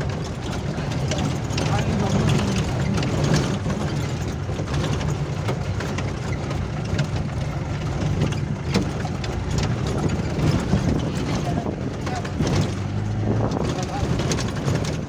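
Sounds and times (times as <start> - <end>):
short rattles and knocks: 0.0 - 15.0
vehicle engine running: 0.0 - 15.0.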